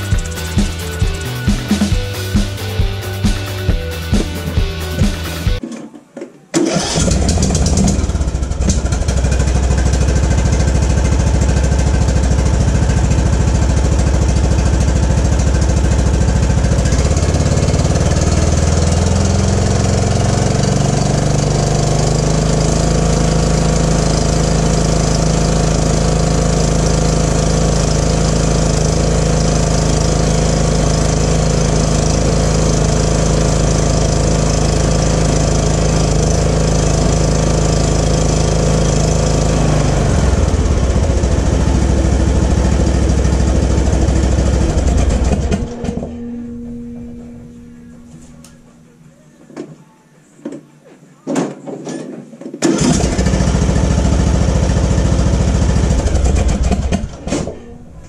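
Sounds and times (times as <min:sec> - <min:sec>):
lawn tractor engine revving: 0:00.0 - 0:05.6, 0:06.6 - 0:48.7, 0:52.6 - 0:58.0.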